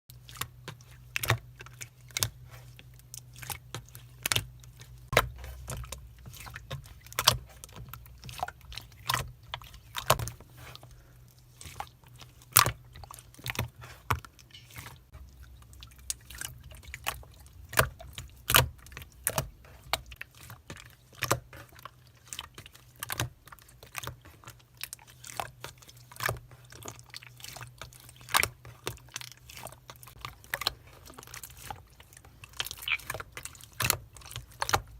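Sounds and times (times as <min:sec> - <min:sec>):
low steady hum: 0:00.1 - 0:34.9.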